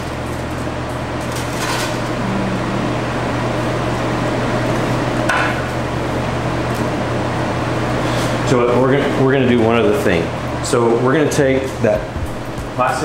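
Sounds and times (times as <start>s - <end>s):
kitchen machinery humming: 0.0s - 13.0s.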